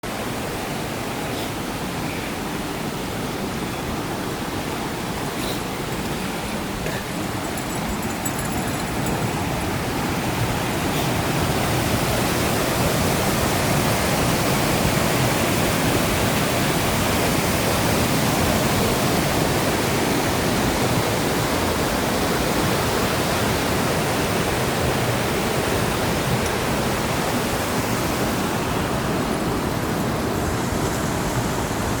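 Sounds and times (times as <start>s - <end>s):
fast-flowing water rushing: 0.0s - 32.0s.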